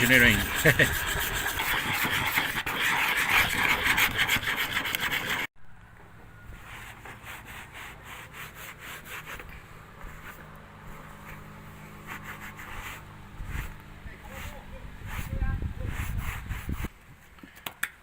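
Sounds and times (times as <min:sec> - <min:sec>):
hand sanding a hard surface: 0:00.0 - 0:05.5, 0:06.6 - 0:16.9.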